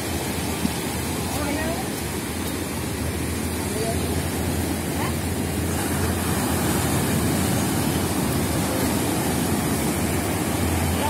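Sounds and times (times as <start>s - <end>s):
sea surf breaking: 0.0s - 11.0s.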